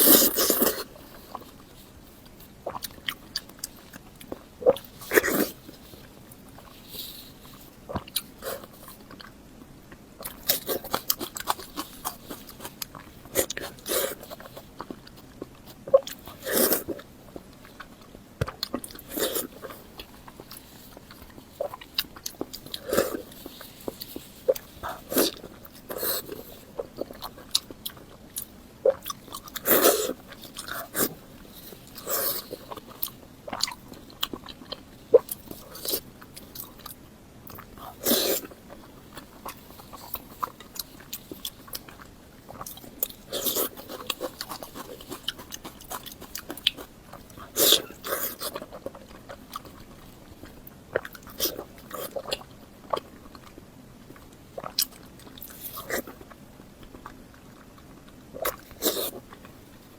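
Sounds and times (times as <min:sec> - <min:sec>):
person chewing and biting: 0:00.0 - 0:59.8.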